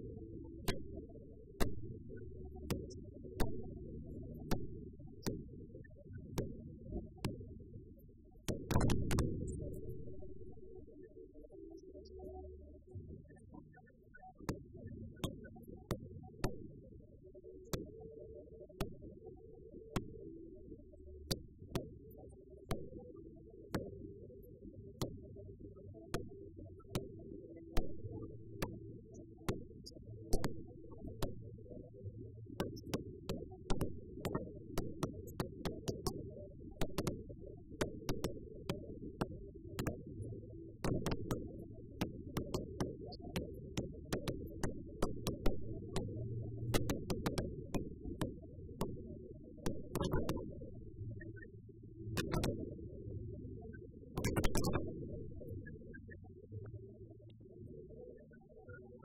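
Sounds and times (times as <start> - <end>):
muffled music with low beat: 0.0 - 53.5.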